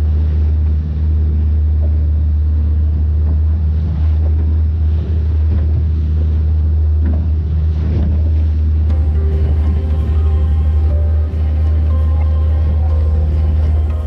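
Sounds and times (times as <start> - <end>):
outboard motor droning: 0.0 - 14.0
water washing past hull: 0.0 - 14.0.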